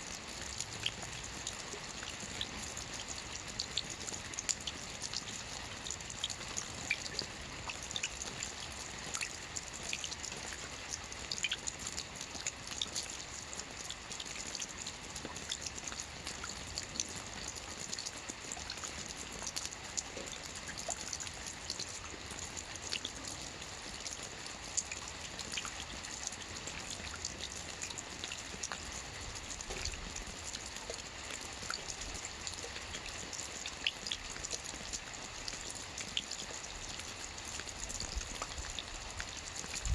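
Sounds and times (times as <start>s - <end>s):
rain falling on lake water: 0.0s - 39.9s.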